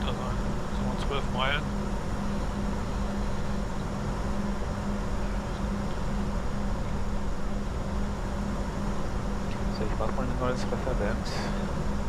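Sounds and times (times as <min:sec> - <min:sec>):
aircraft cockpit airflow and engines: 0:00.0 - 0:12.0
steady low hum: 0:00.0 - 0:12.0.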